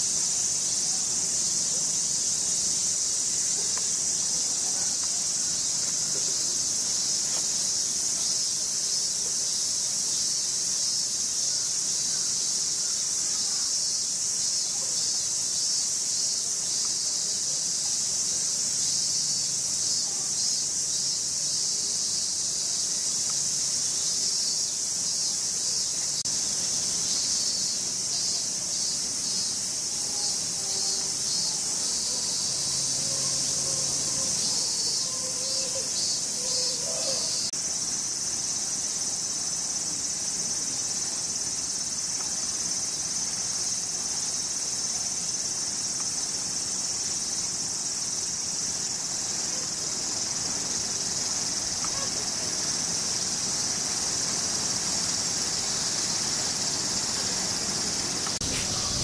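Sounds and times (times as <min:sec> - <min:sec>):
cicadas shrilling: 0:00.0 - 0:59.0.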